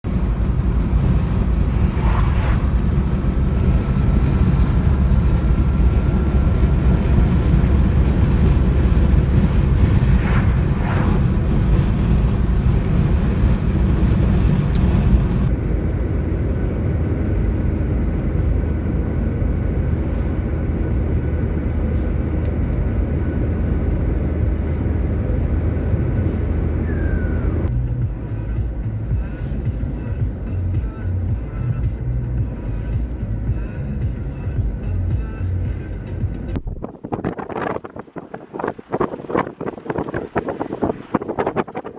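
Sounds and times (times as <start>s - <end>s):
wind buffeting microphone: 0.4s - 27.7s, 34.6s - 41.9s.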